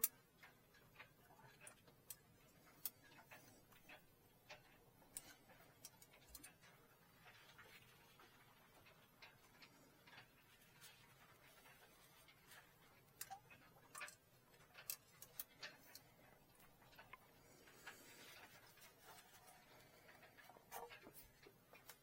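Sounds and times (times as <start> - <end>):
small clicks and taps: 0.0 - 22.0.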